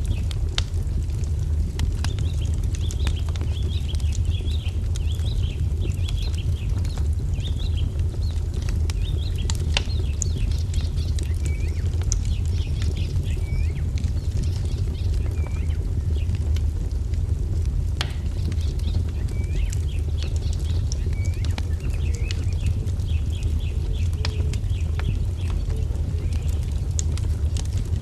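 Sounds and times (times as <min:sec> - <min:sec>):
low rumble: 0:00.0 - 0:28.0
songbirds chirping: 0:00.0 - 0:28.0
wood fire crackling and popping: 0:00.0 - 0:28.0.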